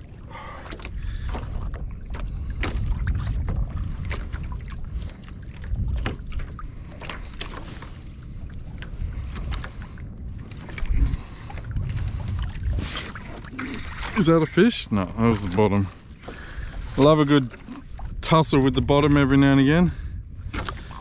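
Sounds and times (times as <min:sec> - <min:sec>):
water lapping against hull: 0:00.0 - 0:21.0
wind rumbling on microphone: 0:00.0 - 0:21.0.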